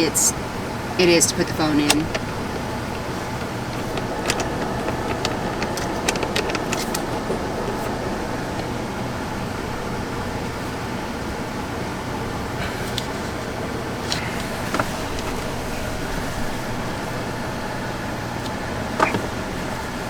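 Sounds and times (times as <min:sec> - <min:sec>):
vehicle cab hum: 0:00.0 - 0:20.0.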